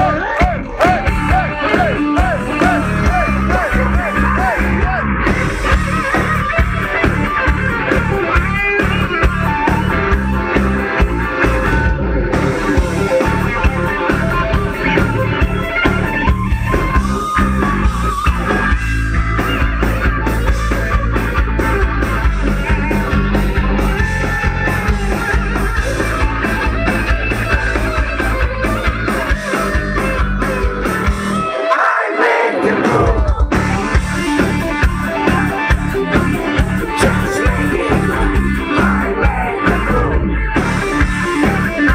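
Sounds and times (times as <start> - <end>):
steady drum beat: 0.0 - 31.5, 32.8 - 41.9
bass guitar: 0.0 - 41.9
distorted electric guitars: 0.0 - 41.9
lead guitar bending: 0.0 - 41.9.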